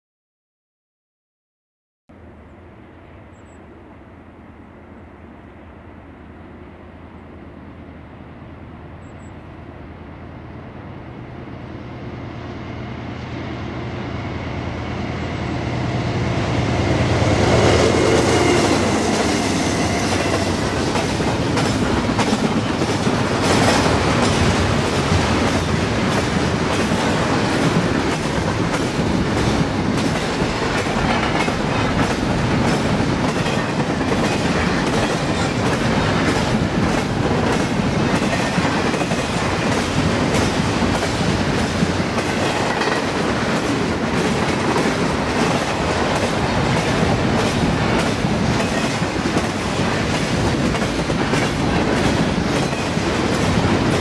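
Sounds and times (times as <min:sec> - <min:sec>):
diesel locomotive engines droning: 0:02.1 - 0:54.0
freight train rumbling past: 0:02.1 - 0:54.0.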